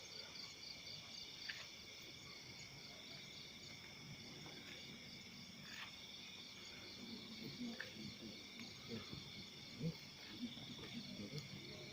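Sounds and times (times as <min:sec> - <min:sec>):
crickets and insects trilling: 0:00.0 - 0:11.9.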